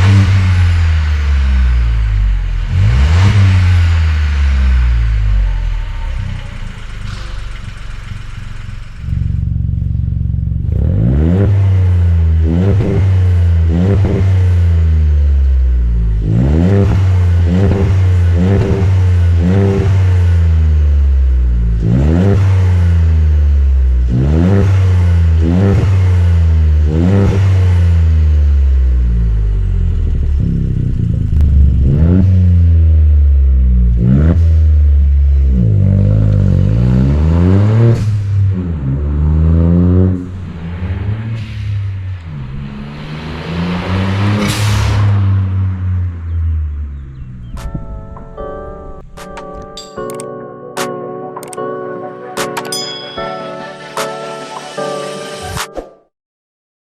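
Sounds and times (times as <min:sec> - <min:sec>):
car engine revving: 0:00.0 - 0:49.8.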